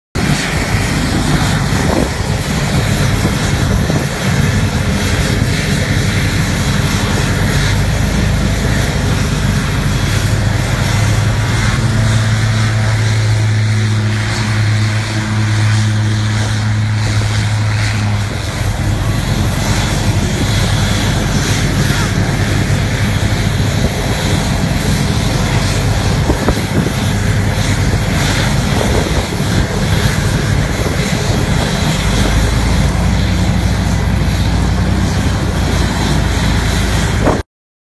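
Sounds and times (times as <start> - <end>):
propeller plane passing overhead: 0.2 - 37.4.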